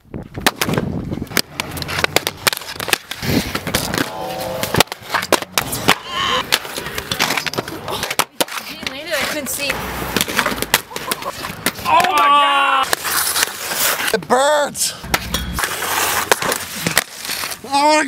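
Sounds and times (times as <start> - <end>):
inline skates rolling on concrete: 0.2 - 14.4, 15.0 - 18.0.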